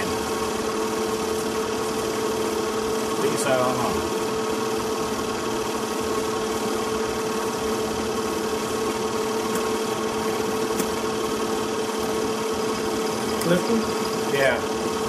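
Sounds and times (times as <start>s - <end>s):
film projector motor whirring: 0.0s - 15.0s.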